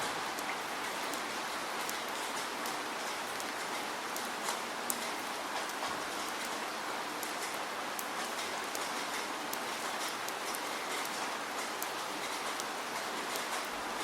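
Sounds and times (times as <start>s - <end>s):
raindrops ticking: 0.0s - 14.0s
steady rain falling: 0.0s - 14.0s.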